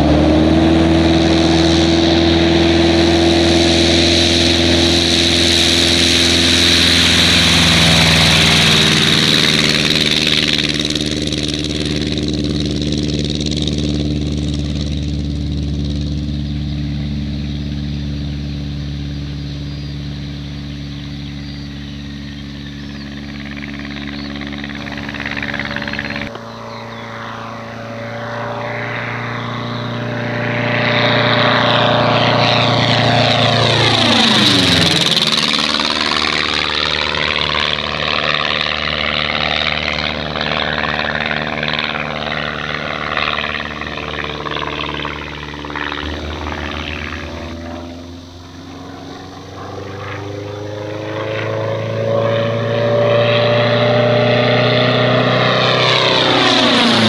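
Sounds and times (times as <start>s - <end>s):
propeller aircraft engine: 0.0s - 57.0s.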